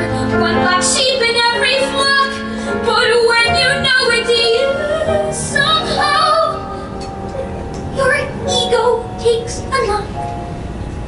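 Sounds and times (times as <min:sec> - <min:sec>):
boy singing a ballad: 0:00.0 - 0:07.0, 0:07.9 - 0:10.2
piano accompaniment: 0:00.0 - 0:11.0.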